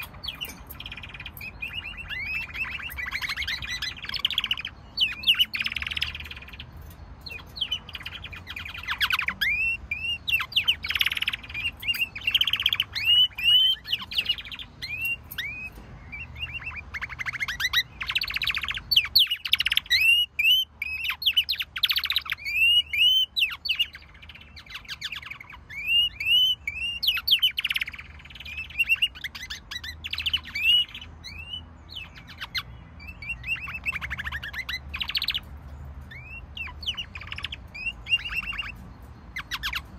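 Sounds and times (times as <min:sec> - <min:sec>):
canaries singing: 0:00.0 - 0:39.9.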